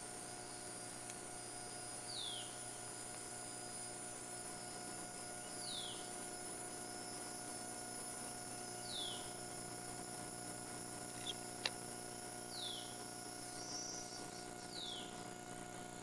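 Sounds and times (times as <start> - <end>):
high steady whine: 0.0 - 16.0
steady electrical hum: 0.0 - 16.0.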